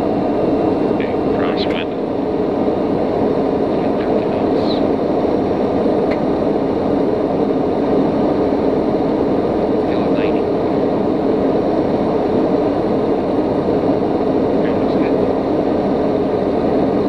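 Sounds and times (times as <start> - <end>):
airflow noise: 0.0 - 17.0
turboprop engine and propeller: 0.0 - 17.0.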